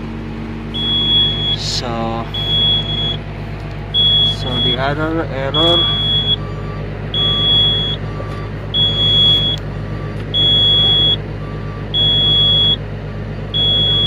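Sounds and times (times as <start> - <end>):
machine engine humming: 0.0 - 14.0
warning buzzer beeping: 0.7 - 3.2, 3.9 - 12.8, 13.5 - 14.0.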